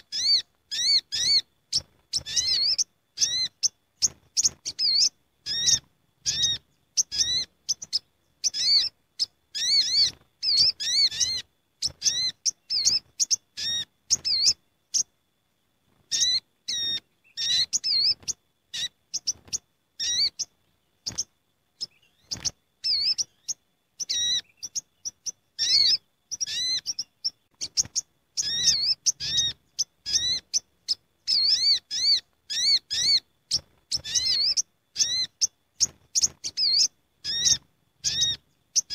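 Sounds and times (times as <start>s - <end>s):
birds chirping: 0.0s - 15.2s, 15.9s - 38.9s.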